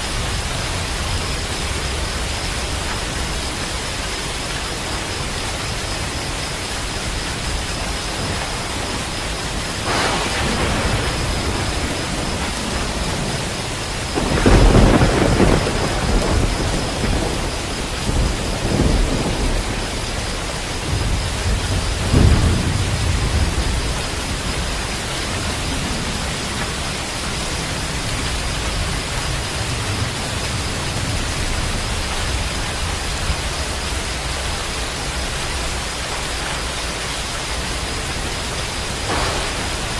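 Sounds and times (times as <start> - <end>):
heavy rain: 0.0 - 39.9
rolling thunder: 6.0 - 36.3, 38.0 - 39.9.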